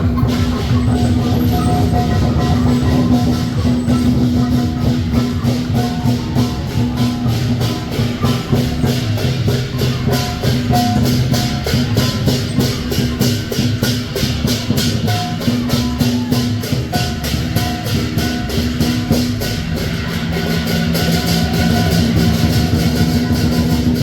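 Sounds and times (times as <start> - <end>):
big drum beating: 0.0 - 24.0
cymbals clashing: 0.0 - 24.0.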